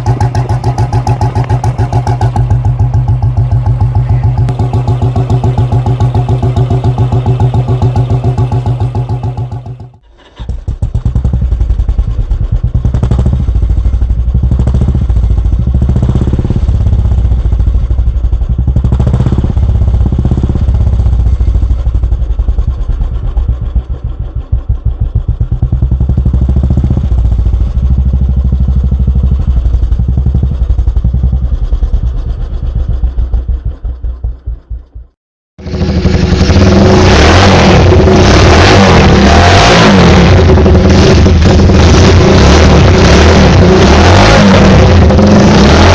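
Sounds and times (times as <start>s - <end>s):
motorcycle exhaust thumping at idle: 0.0s - 37.0s.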